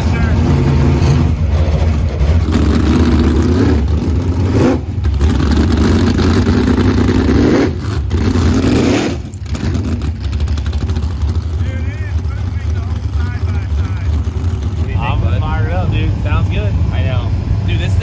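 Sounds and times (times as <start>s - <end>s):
boat engine revving: 0.0s - 18.0s.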